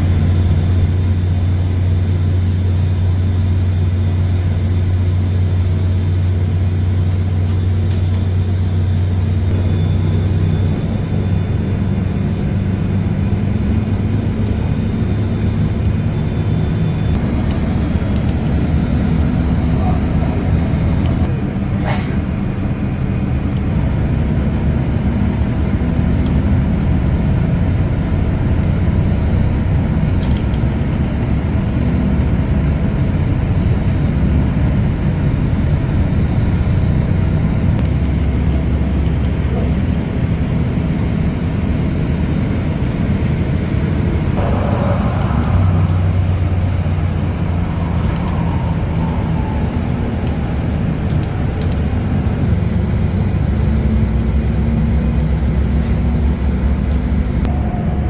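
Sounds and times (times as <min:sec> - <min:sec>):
train humming and rumbling: 0:00.0 - 0:58.0.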